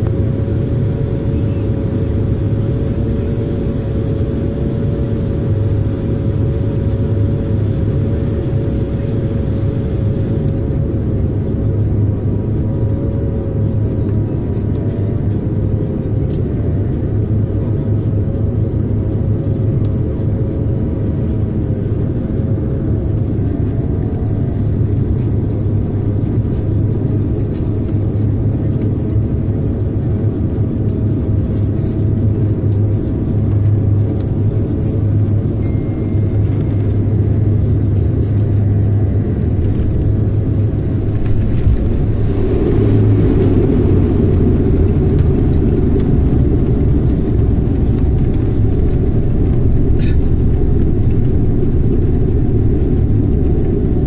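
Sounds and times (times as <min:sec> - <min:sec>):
airliner cabin engine hum: 0:00.0 - 0:54.0.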